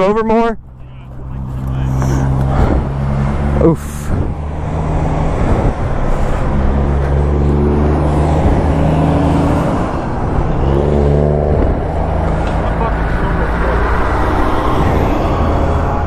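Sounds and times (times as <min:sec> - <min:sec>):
highway traffic: 0:00.0 - 0:16.0.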